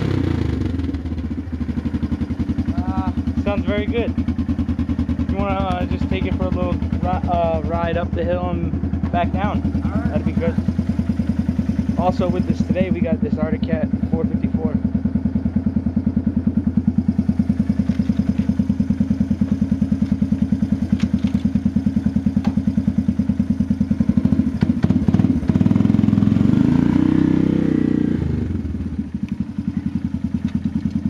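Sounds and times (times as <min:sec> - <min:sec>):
atv engine idling and revving: 0:00.0 - 0:31.0.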